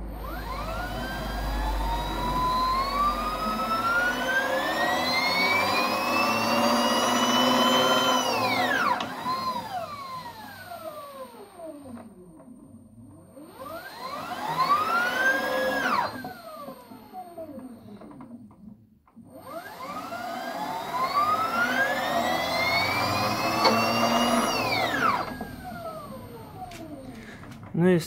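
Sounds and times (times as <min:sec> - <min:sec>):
electric motor whine: 0:00.0 - 0:18.5, 0:19.2 - 0:27.7.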